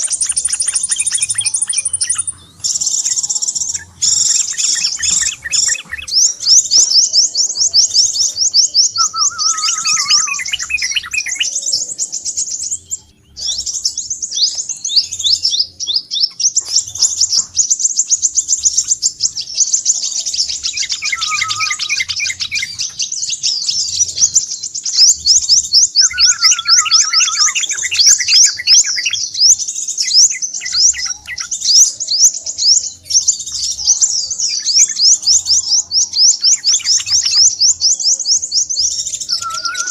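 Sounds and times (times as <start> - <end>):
high twittering bird chips: 0.0 - 39.9
lower bird trill: 0.0 - 39.9.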